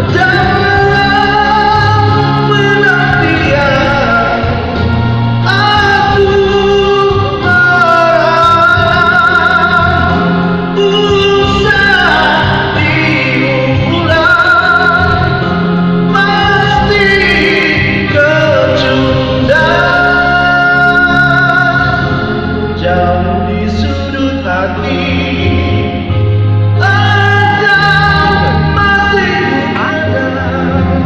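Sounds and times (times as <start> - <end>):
amplified rock backing music: 0.0 - 31.0
person singing with vibrato: 0.0 - 31.0.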